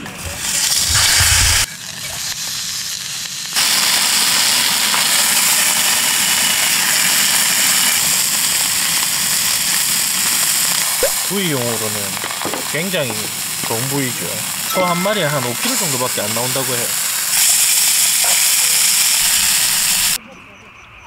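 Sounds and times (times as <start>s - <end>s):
steak sizzling in a frying pan: 0.2s - 20.2s.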